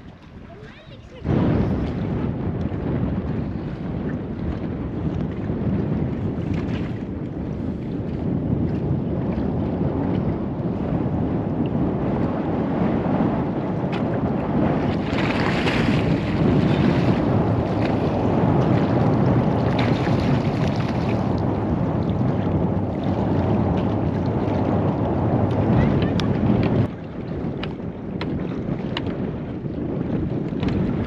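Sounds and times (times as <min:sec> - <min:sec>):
sea water washing: 0:00.0 - 0:31.0
wind buffeting microphone: 0:00.0 - 0:31.0.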